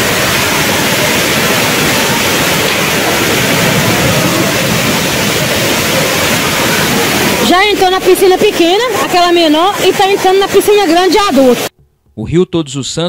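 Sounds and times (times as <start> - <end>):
heavy rain: 0.0 - 11.7
water pouring down steps: 0.0 - 11.7.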